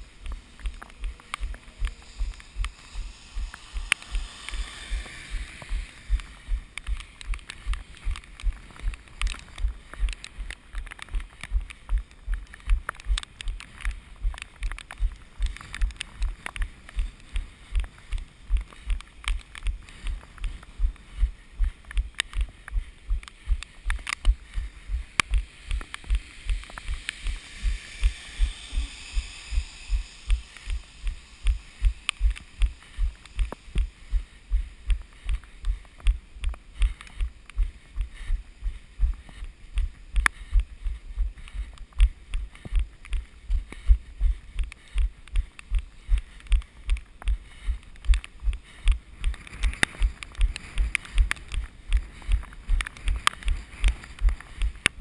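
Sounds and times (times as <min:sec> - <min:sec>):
soft rushing hiss: 0:00.0 - 0:55.0.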